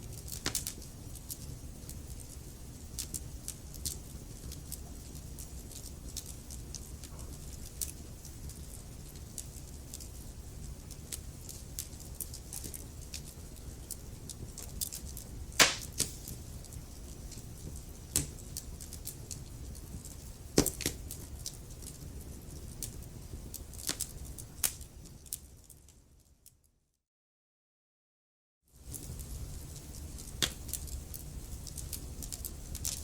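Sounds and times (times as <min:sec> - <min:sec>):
wood fire crackling: 0:00.0 - 0:26.3, 0:28.8 - 0:33.0.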